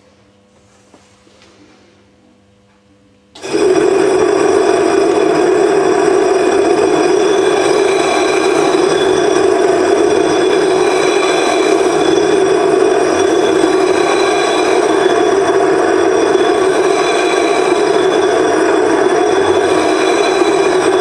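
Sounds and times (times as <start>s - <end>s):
angle grinder running: 3.4s - 21.0s.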